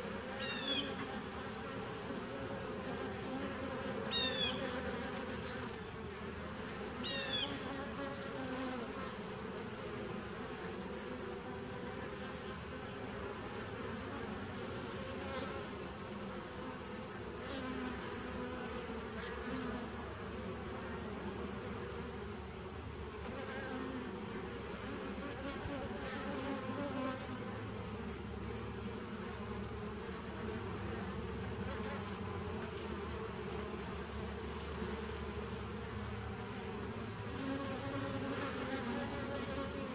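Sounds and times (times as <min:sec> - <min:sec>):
honeybee colony humming: 0:00.0 - 0:39.9
single bees flying past: 0:00.0 - 0:39.9.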